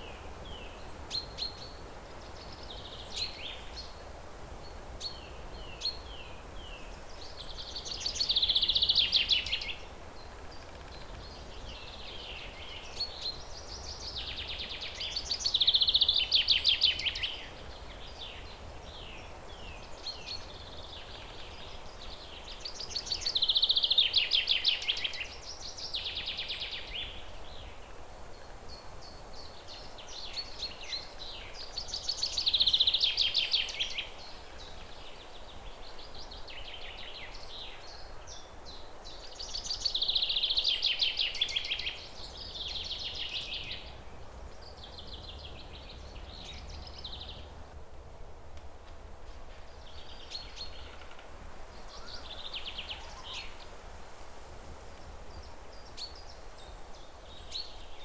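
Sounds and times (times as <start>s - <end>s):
songbird singing with trill: 0.0s - 4.0s, 4.6s - 47.7s, 49.7s - 53.7s, 55.0s - 58.0s
outdoor background hiss: 0.0s - 58.0s.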